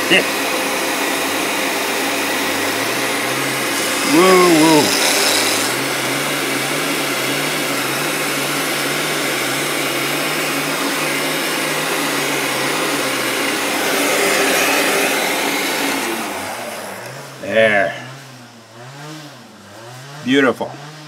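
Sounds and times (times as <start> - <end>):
heat gun fan humming: 0.0 - 18.9.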